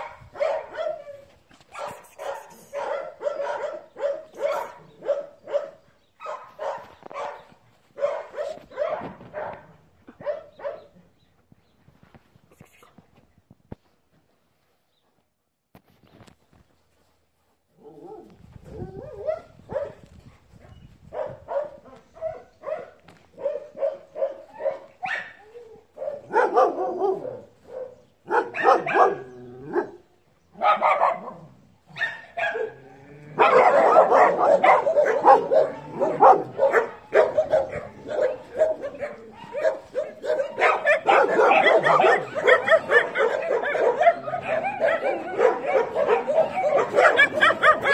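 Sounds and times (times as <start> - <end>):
dogs barking and yipping: 0.0 - 11.0, 17.9 - 47.9.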